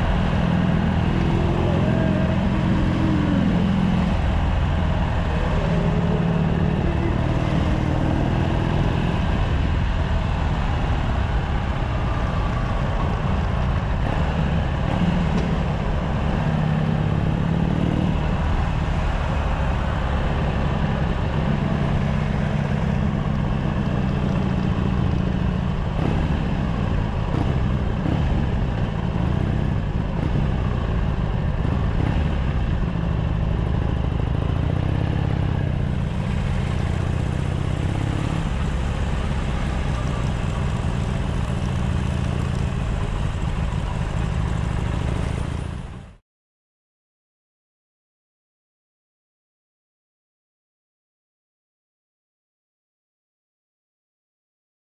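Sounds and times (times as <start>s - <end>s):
motorcycle engine revving: 0.0s - 46.2s.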